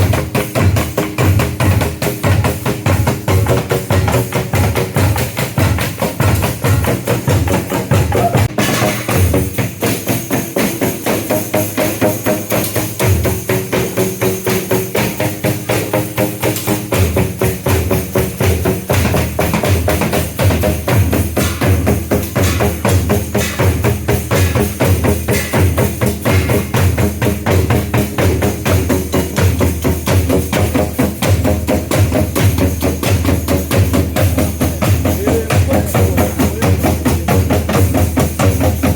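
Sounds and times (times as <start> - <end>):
drums and percussion beat: 0.0 - 38.9.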